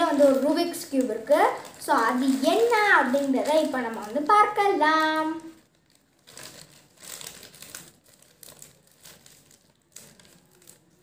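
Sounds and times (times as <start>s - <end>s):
plastic mailer crinkling: 0.0s - 11.0s.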